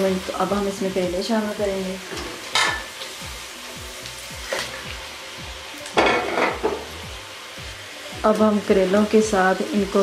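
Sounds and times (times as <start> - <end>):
masala sizzling in hot oil: 0.0 - 10.0.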